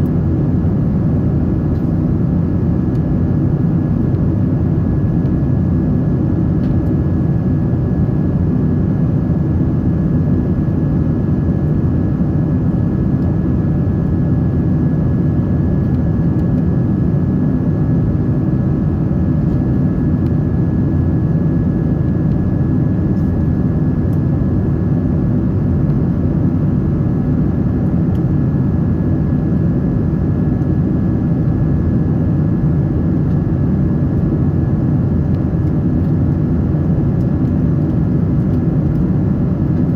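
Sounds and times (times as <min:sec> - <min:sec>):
airflow and jet engine rush: 0:00.0 - 0:39.9.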